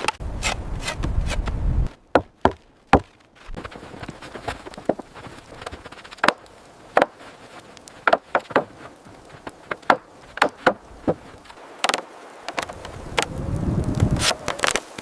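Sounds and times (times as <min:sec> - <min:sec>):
wood being chopped: 0:00.0 - 0:03.2, 0:04.2 - 0:13.3.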